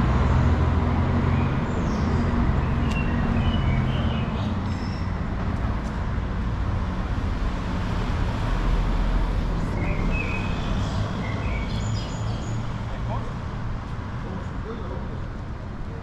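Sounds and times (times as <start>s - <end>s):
passing cars rumble: 0.0s - 16.0s.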